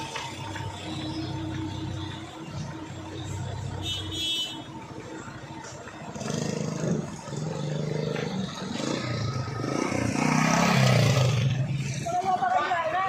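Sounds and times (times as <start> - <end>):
truck engine labouring uphill: 0.0 - 13.0.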